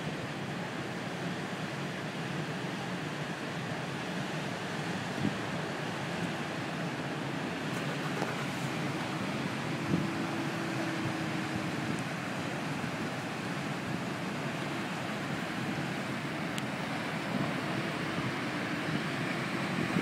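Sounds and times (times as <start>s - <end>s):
faint ship hum: 0.0s - 20.0s
water rushing along ship hull: 0.0s - 20.0s
wind: 0.0s - 20.0s.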